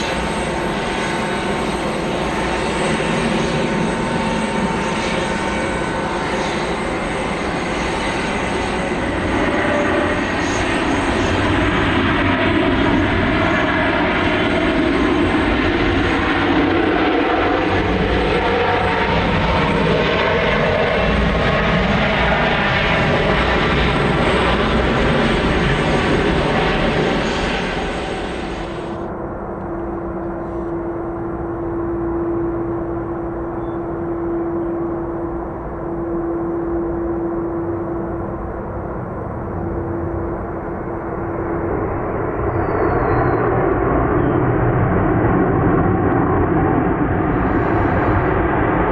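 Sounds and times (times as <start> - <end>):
jet airliner engines: 0.0 - 48.9.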